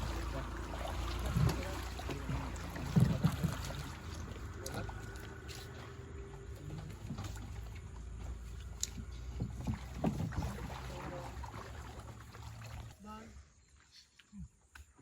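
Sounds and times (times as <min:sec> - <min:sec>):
knocks and water splashes: 0:00.0 - 0:13.3
boat engine low rumble: 0:00.0 - 0:14.6.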